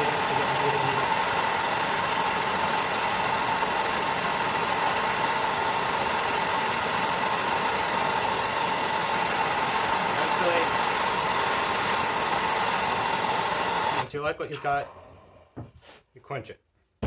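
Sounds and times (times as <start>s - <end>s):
gas torch flame hissing: 0.0s - 15.7s.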